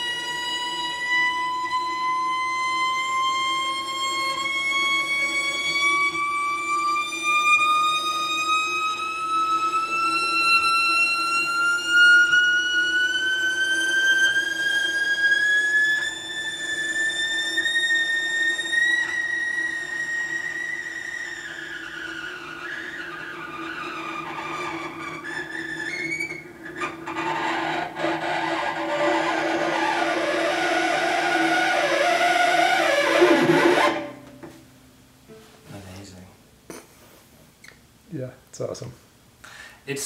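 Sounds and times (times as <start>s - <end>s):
sharp cello bow strokes: 0.0s - 34.6s
cello note sliding: 0.0s - 36.1s.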